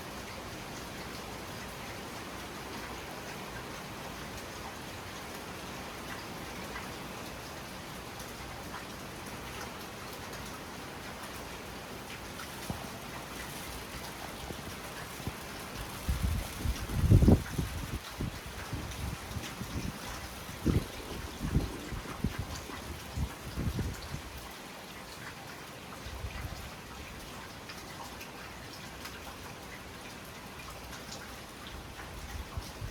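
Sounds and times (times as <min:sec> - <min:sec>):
heavy rain pattering: 0:00.1 - 0:32.9
raindrop ticks: 0:02.8 - 0:32.9.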